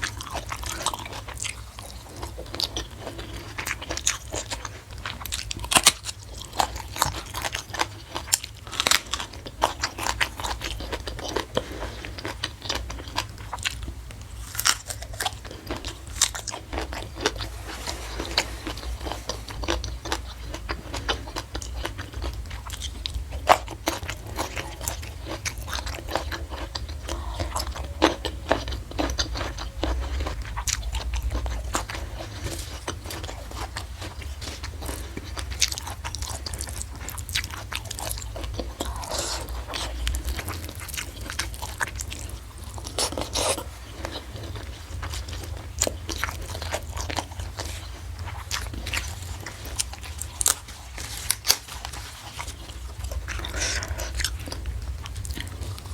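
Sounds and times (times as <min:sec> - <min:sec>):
chewing and crunching food: 0:00.0 - 0:55.9
steady low hum: 0:00.0 - 0:55.9.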